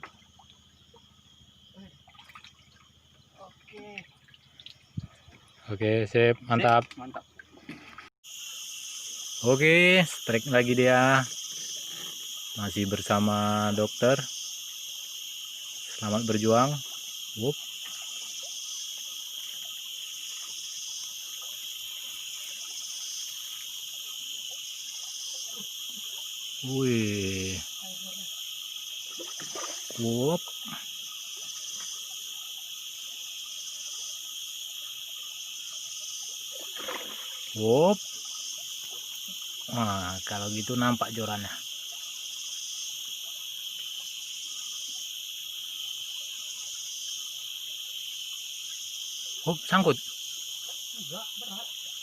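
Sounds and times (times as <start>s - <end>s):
crickets chirping: 0.0s - 52.0s
shrill insect chorus: 0.0s - 52.0s.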